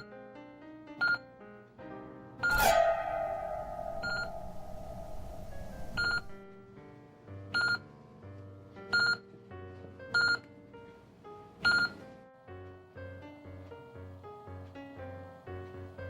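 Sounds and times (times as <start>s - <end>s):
soft keyboard music: 0.0s - 3.4s, 5.7s - 16.0s.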